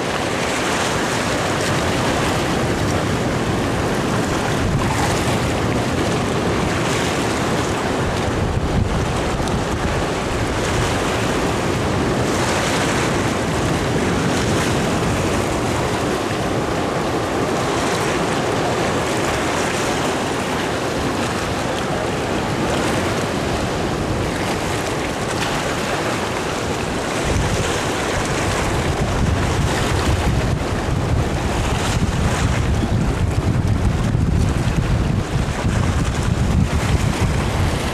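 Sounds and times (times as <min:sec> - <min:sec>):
surf washing over rocks: 0:00.0 - 0:37.9
wind rumbling on microphone: 0:00.0 - 0:37.9.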